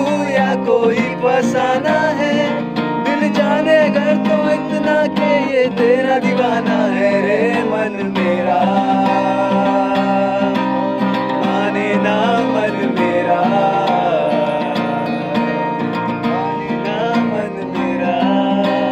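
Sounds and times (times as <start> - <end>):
acoustic guitar strumming: 0.0 - 18.9
wavering melody line: 0.0 - 18.9.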